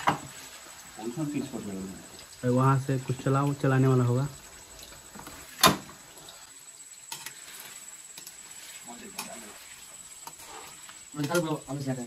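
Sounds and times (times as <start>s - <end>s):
cheese frying in hot oil: 0.0s - 12.0s.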